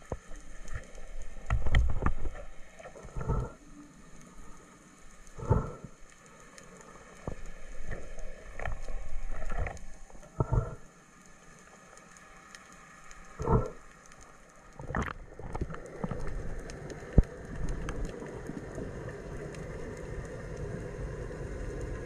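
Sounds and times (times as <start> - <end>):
water swishes: 0.0 - 22.0.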